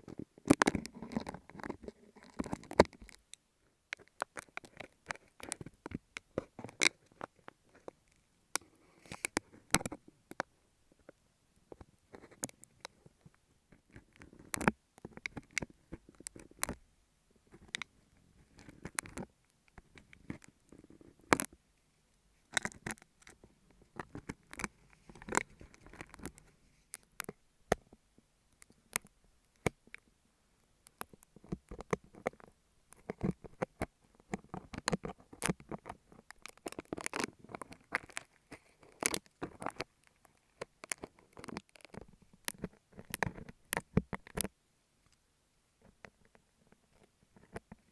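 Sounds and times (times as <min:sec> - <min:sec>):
sharp clicks and crackles: 0:00.0 - 0:16.8, 0:17.5 - 0:21.6, 0:22.4 - 0:45.2.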